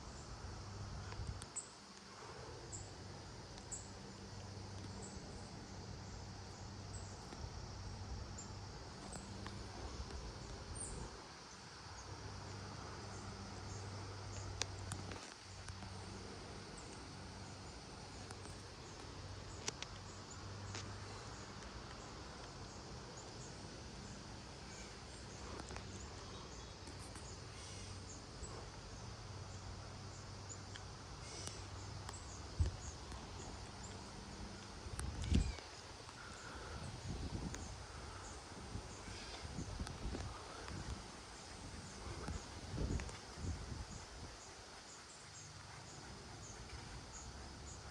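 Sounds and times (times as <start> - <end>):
background hiss: 0.0 - 47.9
insect chirps: 0.0 - 47.9.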